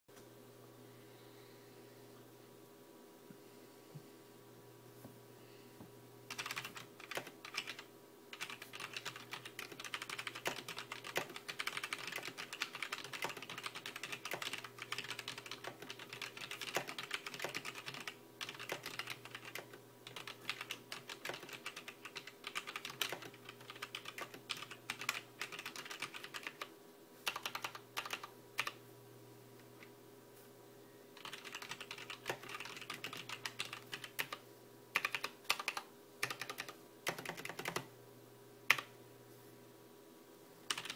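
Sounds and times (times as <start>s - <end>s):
faint steady hum: 0.1s - 40.9s.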